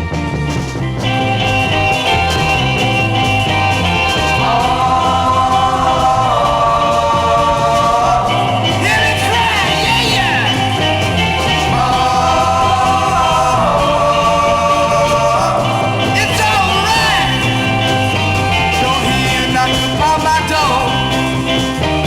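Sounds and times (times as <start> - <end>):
garage rock band playing: 0.0 - 22.0
pulsing bass line: 0.0 - 22.0.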